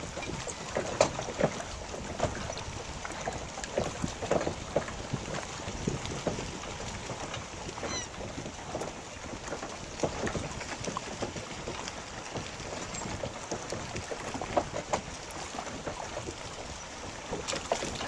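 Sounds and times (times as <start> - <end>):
choppy water splashing: 0.0 - 18.0
wind on microphone: 0.0 - 18.0.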